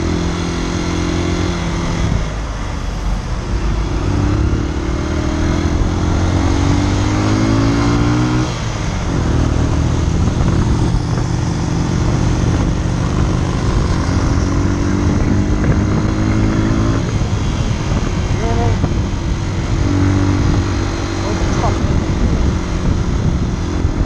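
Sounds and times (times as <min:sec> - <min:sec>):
motorcycle engine accelerating: 0:00.0 - 0:24.0
rushing noise: 0:00.0 - 0:24.0.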